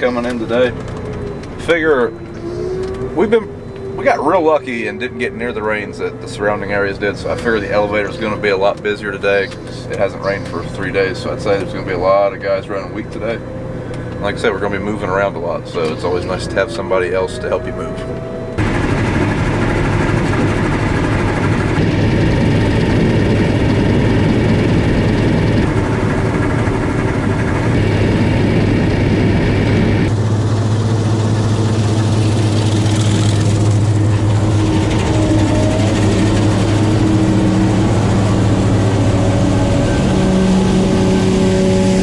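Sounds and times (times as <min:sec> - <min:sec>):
diesel engine humming under load: 0:00.0 - 0:42.0.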